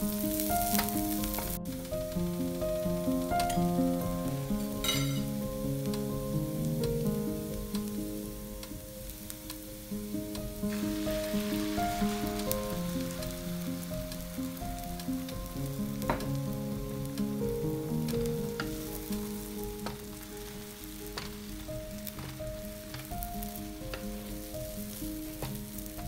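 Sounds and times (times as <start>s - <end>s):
eggs and onion sizzling: 0.0s - 26.0s
soft piano music: 0.0s - 26.0s.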